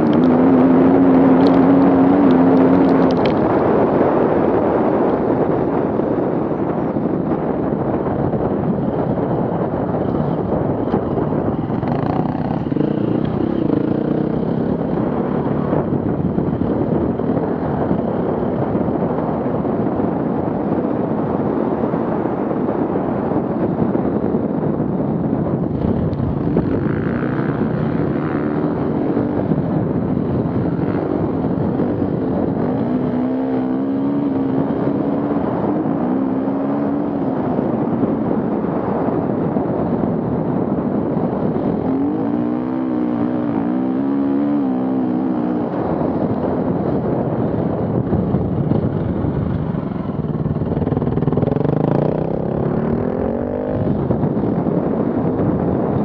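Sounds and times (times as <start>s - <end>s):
off-road vehicle engines: 0.0s - 56.0s
steady rushing noise: 0.0s - 56.0s.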